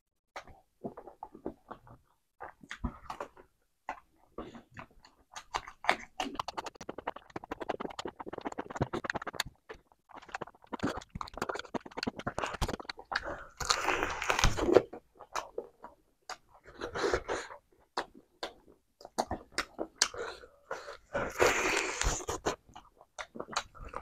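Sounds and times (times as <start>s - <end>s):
wet chewing and crunching: 0.4s - 24.0s.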